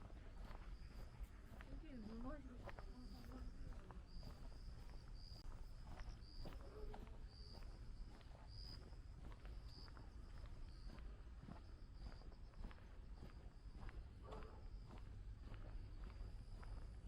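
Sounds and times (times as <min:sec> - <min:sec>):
faint insect chirping: 0:00.0 - 0:17.0
soft footsteps on a path: 0:00.0 - 0:17.0.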